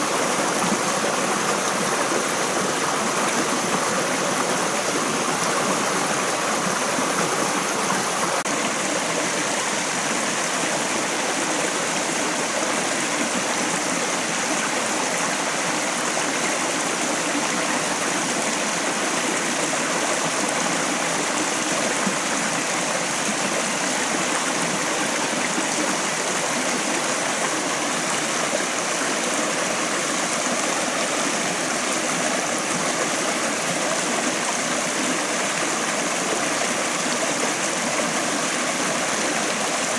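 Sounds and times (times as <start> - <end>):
stream flowing over small cascades: 0.0 - 39.9.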